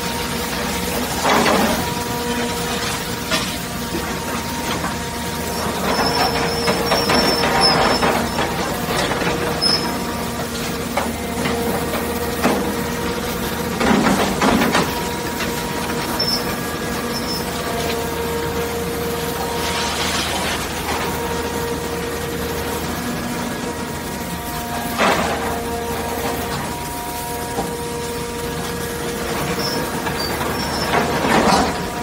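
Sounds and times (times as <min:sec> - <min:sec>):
hydraulic unit humming: 0:00.0 - 0:32.0.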